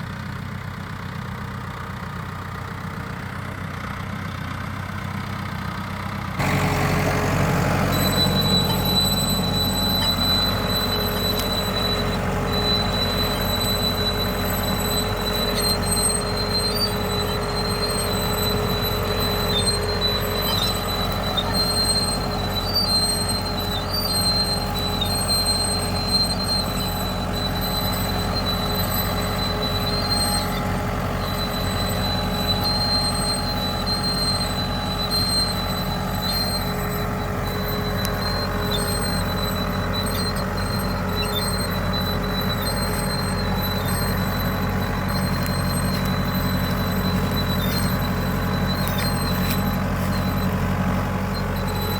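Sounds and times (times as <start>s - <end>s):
tractor diesel engine running: 0.0s - 51.9s
high-pitched squeal: 6.4s - 51.9s.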